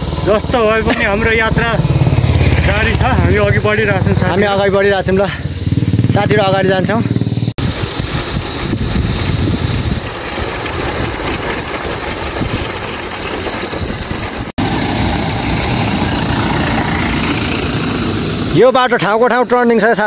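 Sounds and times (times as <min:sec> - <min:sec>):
vehicle engine running: 0:00.0 - 0:18.6
high hiss: 0:00.0 - 0:20.0.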